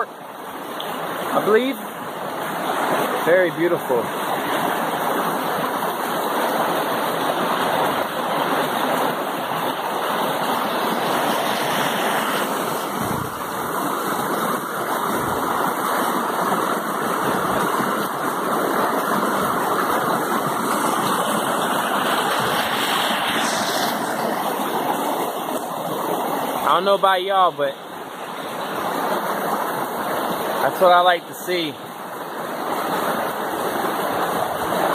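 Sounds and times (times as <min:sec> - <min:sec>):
creek rushing over boulders: 0:00.0 - 0:34.9.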